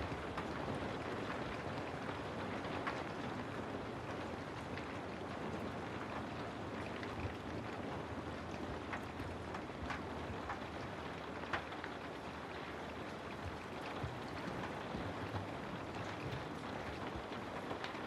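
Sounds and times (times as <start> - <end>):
rain drop ticks: 0.0 - 18.0
steady rain: 0.0 - 18.0.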